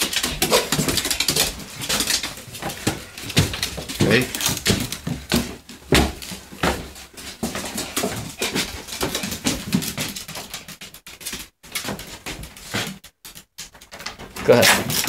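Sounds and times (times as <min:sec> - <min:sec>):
taps and scuffs on hardwood floor: 0:00.0 - 0:13.4.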